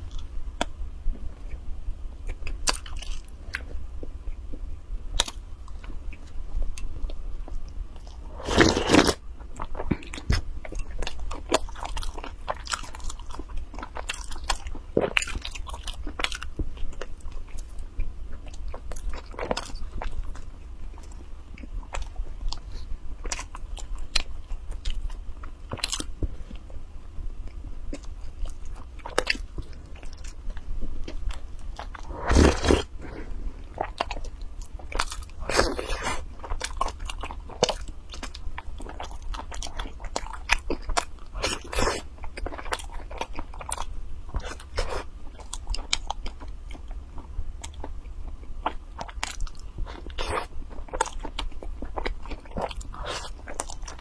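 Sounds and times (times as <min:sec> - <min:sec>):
chewing bread: 0:00.0 - 0:26.8, 0:27.4 - 0:54.0.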